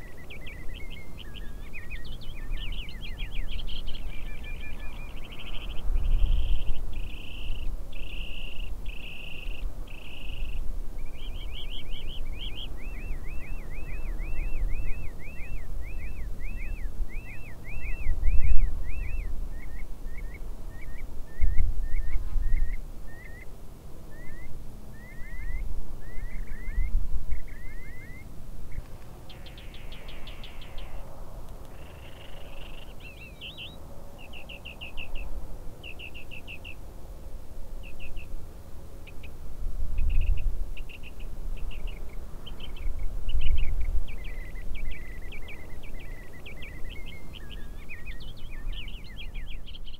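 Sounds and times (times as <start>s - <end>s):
songbirds chirping: 0.0s - 49.9s.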